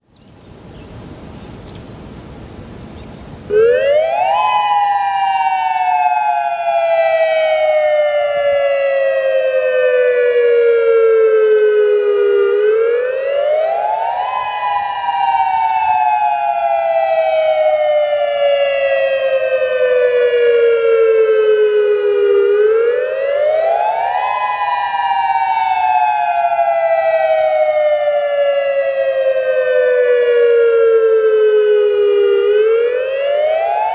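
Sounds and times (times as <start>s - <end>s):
dual-tone warning siren wail: 3.5s - 33.9s.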